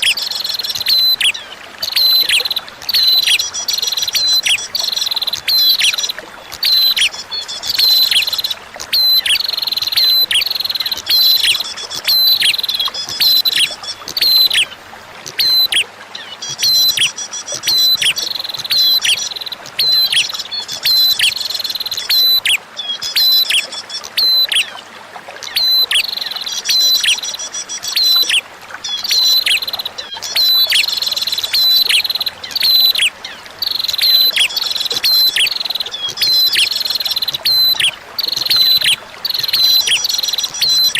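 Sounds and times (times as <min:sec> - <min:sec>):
faint running water: 0:00.0 - 0:40.9.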